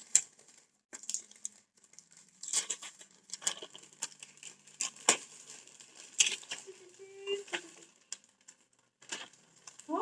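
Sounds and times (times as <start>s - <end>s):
wrapping paper crinkling and tearing: 0.0s - 10.0s.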